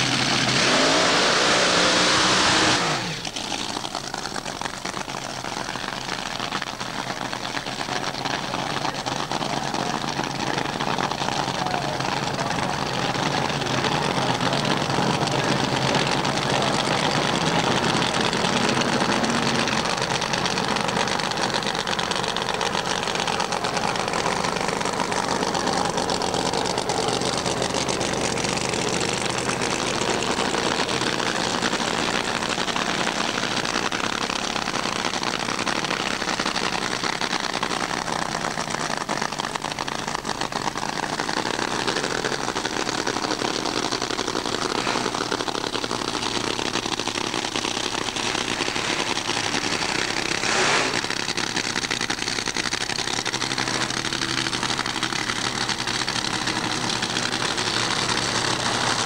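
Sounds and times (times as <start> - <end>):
racing engines idling: 0.0 - 59.0.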